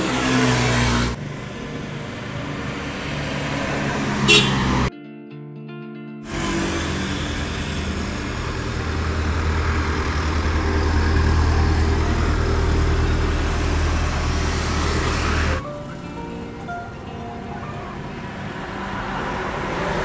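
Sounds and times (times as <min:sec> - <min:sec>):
engine drone: 0:00.0 - 0:04.9, 0:06.3 - 0:20.0
road and wind noise: 0:00.0 - 0:04.9, 0:06.3 - 0:20.0.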